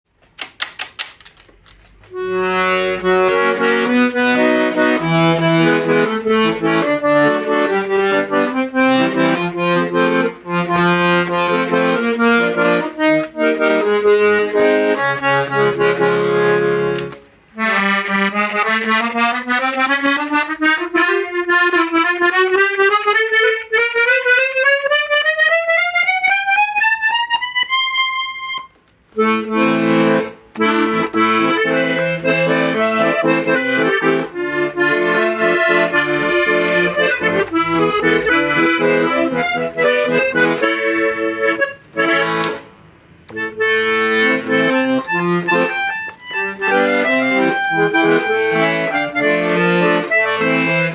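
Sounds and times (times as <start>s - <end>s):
accordion playing: 1.6s - 50.9s.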